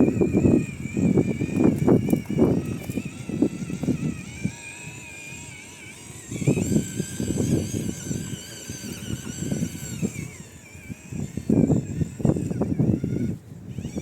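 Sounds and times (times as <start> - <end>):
small tyres crunching over ground: 0.0 - 14.0
toy car motor whining: 0.0 - 14.0.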